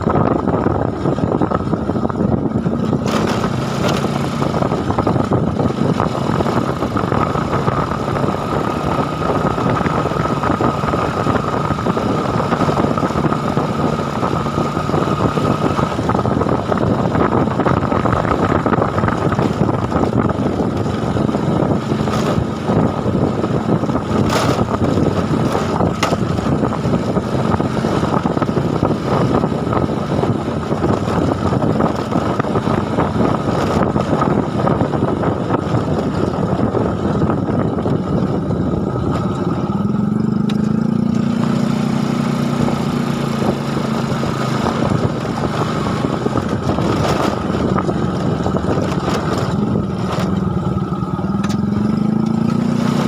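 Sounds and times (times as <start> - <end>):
vehicle engine running: 0.0 - 53.0
wind noise: 0.0 - 53.0.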